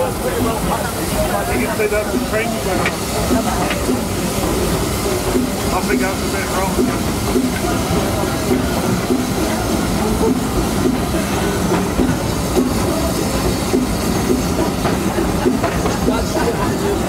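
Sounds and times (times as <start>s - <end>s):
small steam train running: 0.0s - 17.0s.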